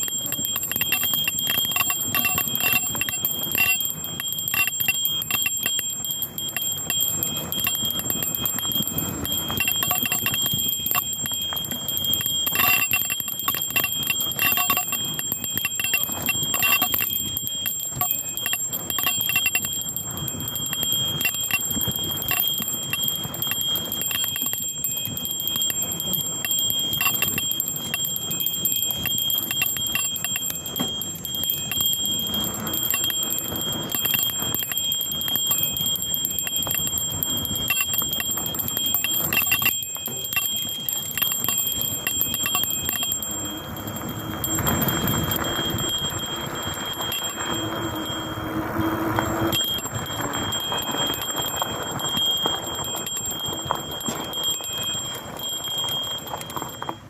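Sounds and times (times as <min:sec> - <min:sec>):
bicycle bell jingling: 0:00.0 - 0:57.0
bike clattering and rumbling: 0:00.0 - 0:57.0.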